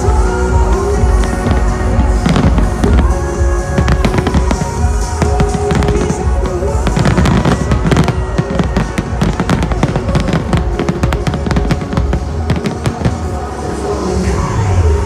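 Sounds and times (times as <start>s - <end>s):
fireworks bursting and crackling: 0.0s - 14.5s
music with heavy bass beat: 0.0s - 14.6s.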